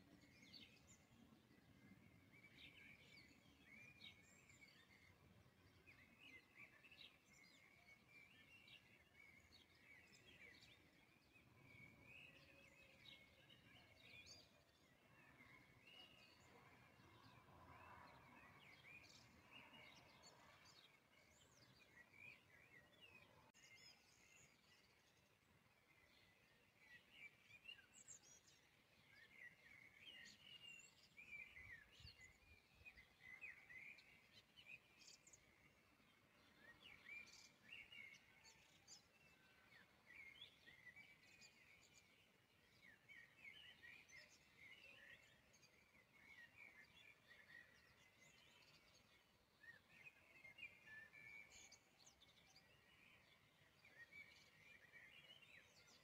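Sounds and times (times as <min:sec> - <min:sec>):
faint bird chirping: 0:00.0 - 0:56.0.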